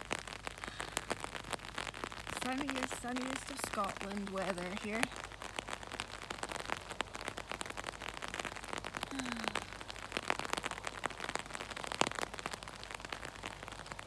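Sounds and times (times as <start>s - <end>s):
rain hitting umbrella: 0.0s - 14.0s.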